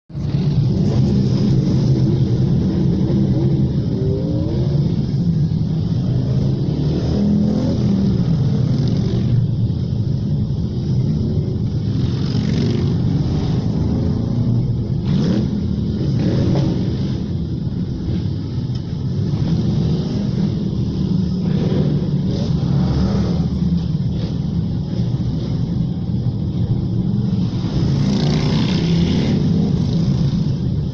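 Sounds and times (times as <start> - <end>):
motorcycle engines echoing in tunnel: 0.1 - 30.9
motorcycles revving: 0.1 - 30.9.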